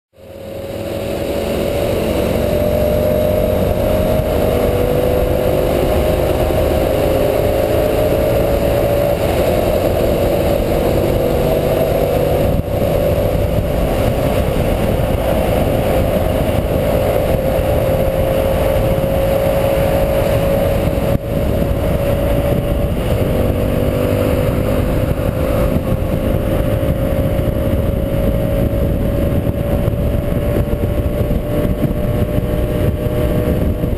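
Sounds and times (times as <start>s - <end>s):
motorcycle engine cruising: 0.2s - 33.9s
wind rush on microphone: 0.2s - 33.9s.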